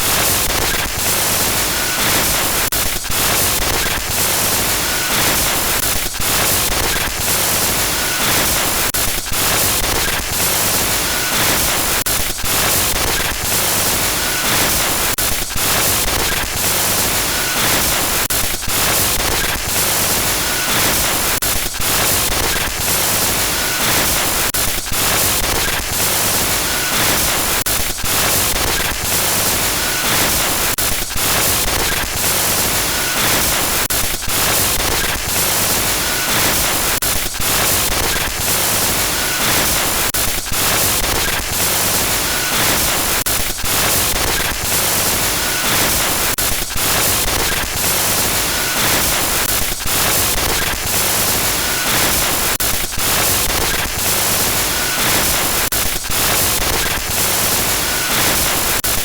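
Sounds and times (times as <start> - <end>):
harsh glitch static noise: 0.0 - 59.0.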